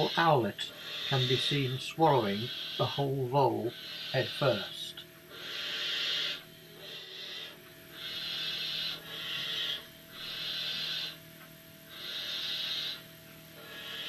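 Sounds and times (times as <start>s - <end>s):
owl chicks hissing: 0.0s - 11.2s, 11.9s - 14.0s.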